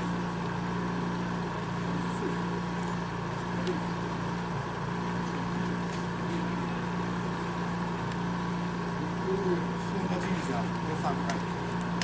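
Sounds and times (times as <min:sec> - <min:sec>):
mechanical drone with low hum: 0:00.0 - 0:12.0.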